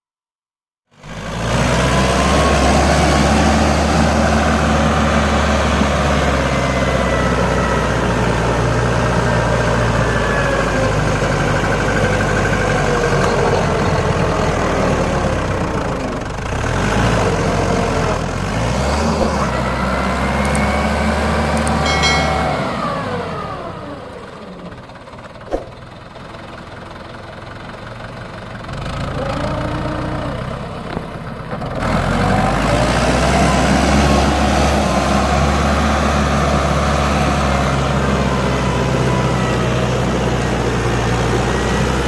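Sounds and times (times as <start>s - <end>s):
tractor diesel engine running: 1.0s - 42.0s.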